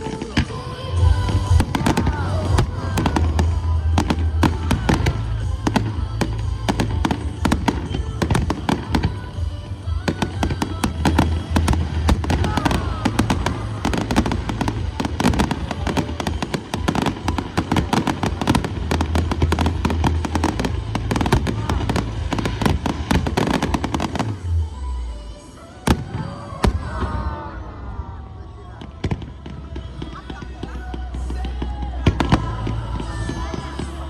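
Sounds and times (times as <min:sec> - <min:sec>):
fireworks bangs and crackles: 0:00.0 - 0:24.7, 0:25.6 - 0:34.0
music playing: 0:00.0 - 0:34.0.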